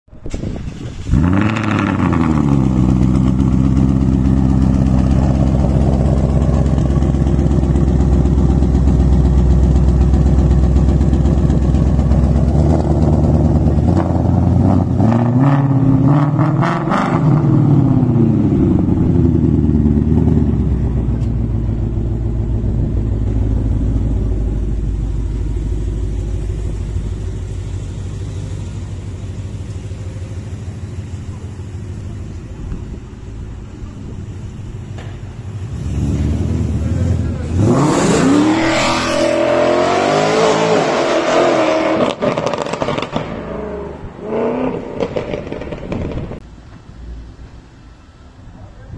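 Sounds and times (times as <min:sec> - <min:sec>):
car engine idling and revving: 0:00.1 - 0:48.9.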